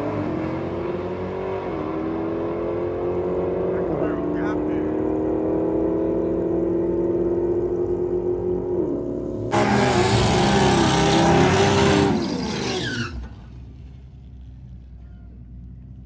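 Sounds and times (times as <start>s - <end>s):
drag racing car engines: 0.0s - 16.0s.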